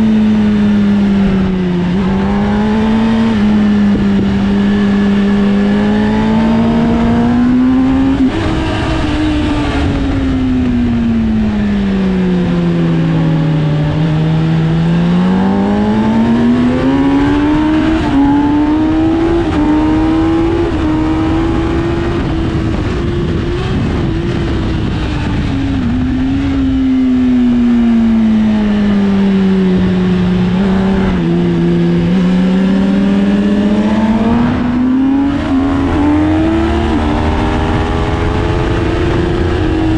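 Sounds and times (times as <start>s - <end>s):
heavy wind rush: 0.0s - 39.9s
motorcycle engine revving: 0.0s - 39.9s.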